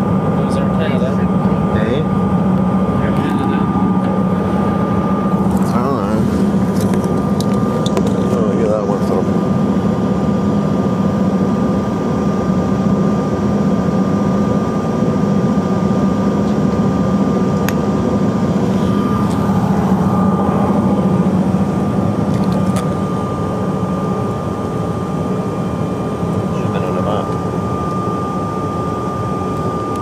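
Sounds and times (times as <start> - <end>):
high whine: 0.0 - 30.0
jet engine low hum: 0.0 - 30.0.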